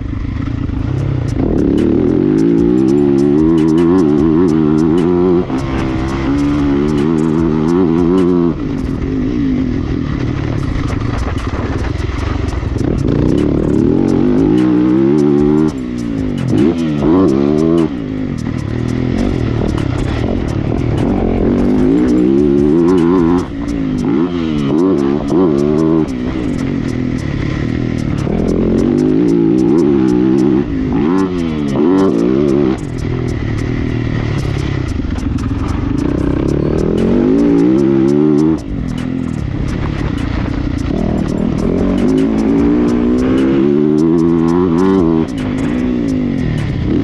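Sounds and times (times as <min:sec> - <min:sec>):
motocross bike engine revving: 0:00.0 - 0:47.0.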